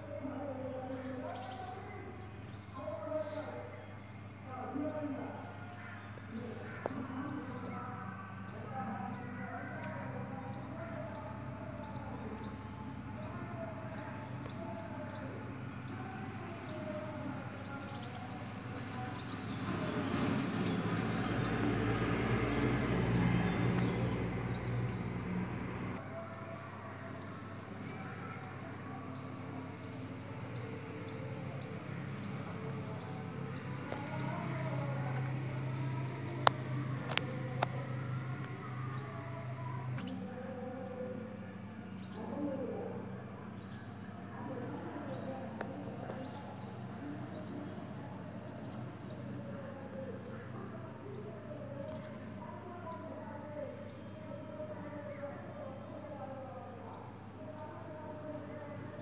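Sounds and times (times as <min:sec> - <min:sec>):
bird chicks chirping: 0:00.0 - 0:59.0.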